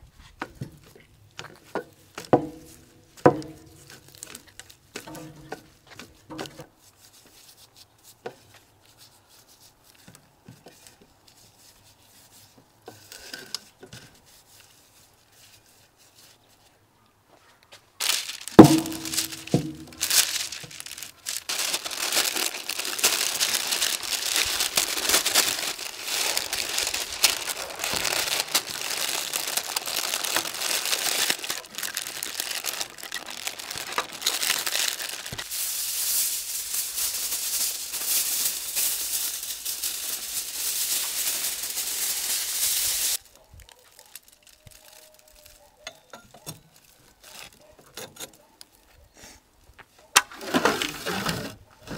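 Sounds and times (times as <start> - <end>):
baking paper crinkling: 0.2 - 16.8, 17.8 - 45.8, 46.7 - 47.7.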